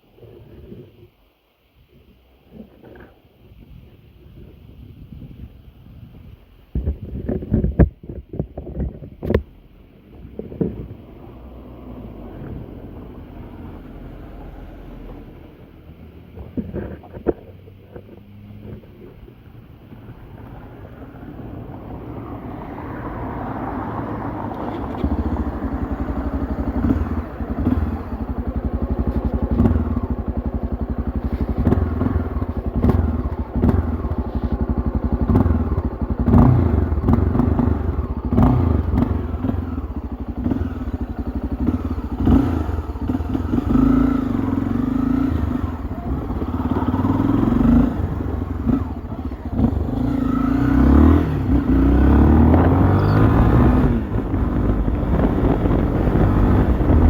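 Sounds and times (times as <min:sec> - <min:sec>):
motorcycle engine revving: 0:10.1 - 0:57.0.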